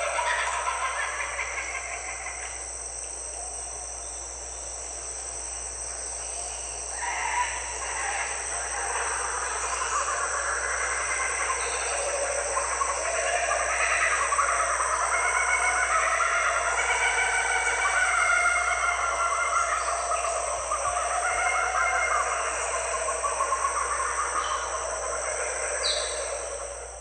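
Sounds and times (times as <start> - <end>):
birds calling: 0.0 - 5.1, 6.0 - 27.0
high insect drone: 0.0 - 27.0.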